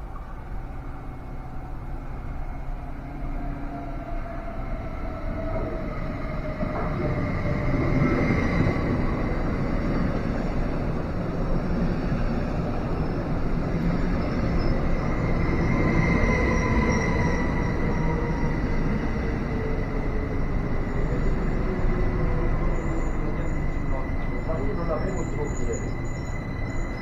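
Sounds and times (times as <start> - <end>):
electric train rumble: 0.0 - 27.0.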